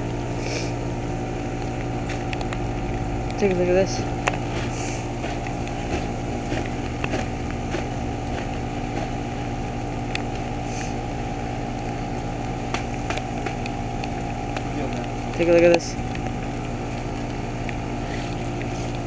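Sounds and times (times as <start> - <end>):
heat pump mechanical hum: 0.0 - 19.0.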